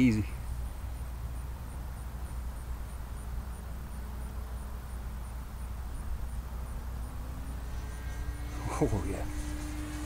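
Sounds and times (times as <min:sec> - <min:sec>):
model plane propeller drone: 0:00.0 - 0:10.0.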